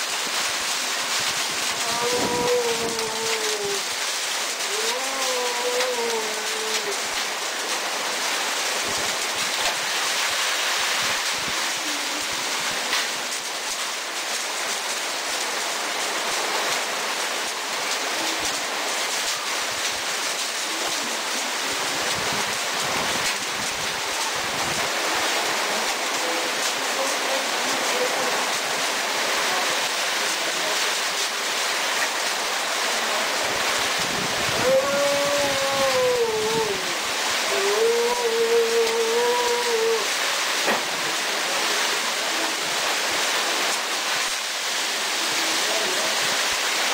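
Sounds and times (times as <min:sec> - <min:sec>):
hail and rain beating down: 0:00.0 - 0:46.9.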